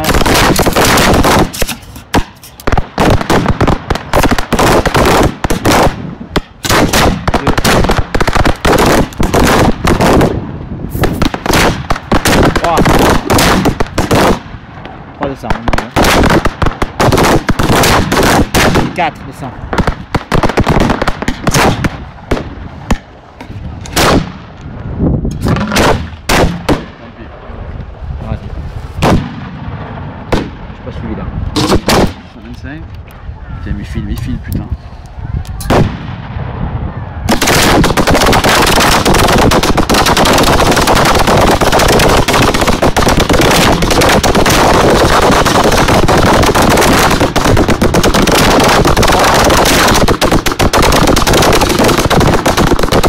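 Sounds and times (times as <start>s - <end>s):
fireworks bangs: 0.0s - 24.6s, 25.3s - 27.4s, 29.0s - 30.8s, 31.5s - 32.5s, 35.6s - 53.0s.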